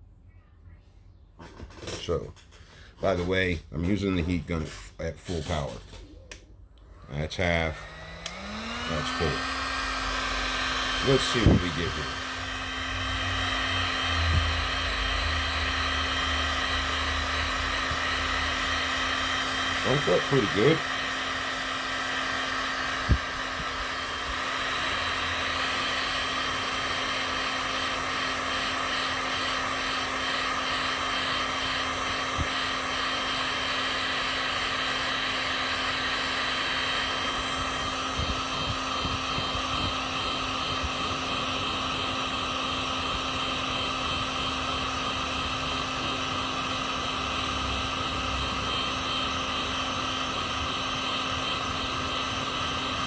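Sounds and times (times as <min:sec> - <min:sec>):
heat gun blowing: 0:02.5 - 0:53.0.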